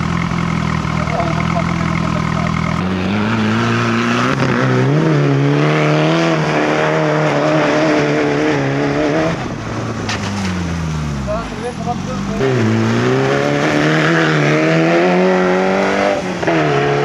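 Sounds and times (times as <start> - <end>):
buggy engine running hard: 0.0 - 17.0.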